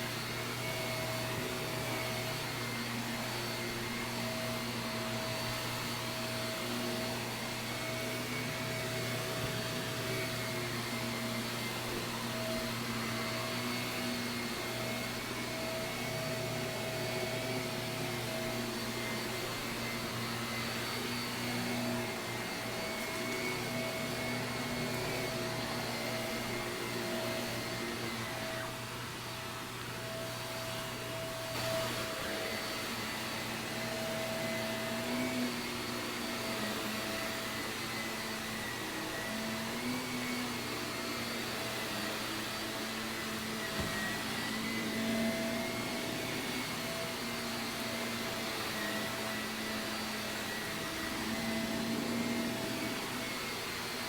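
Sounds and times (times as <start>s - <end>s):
vacuum cleaner running over carpet: 0.0s - 54.0s.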